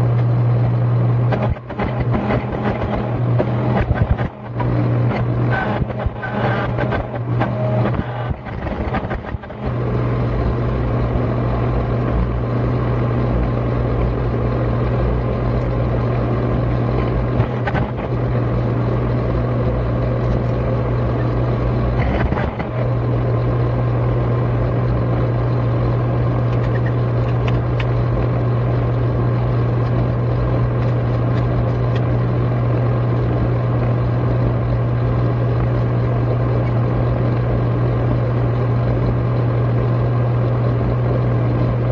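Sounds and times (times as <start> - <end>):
hydraulic press drone: 0.0 - 39.5.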